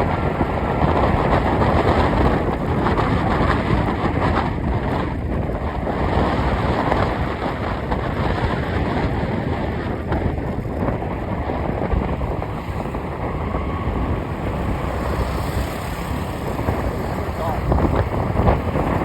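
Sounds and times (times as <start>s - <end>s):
moving vehicle rumble: 0.0s - 19.0s
wind rushing over microphone: 0.0s - 19.0s.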